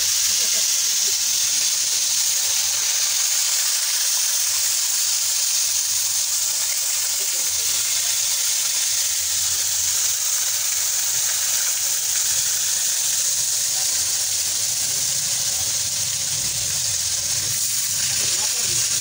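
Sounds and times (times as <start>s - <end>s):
eel sizzling in hot oil: 0.0s - 19.0s.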